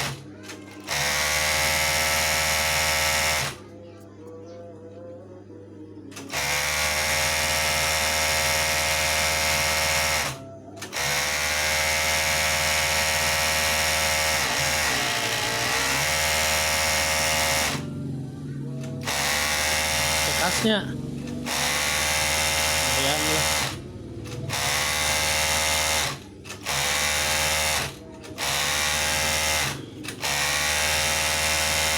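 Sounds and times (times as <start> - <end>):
sewing machine whirring: 0.0 - 3.6, 6.1 - 18.0, 18.8 - 31.9.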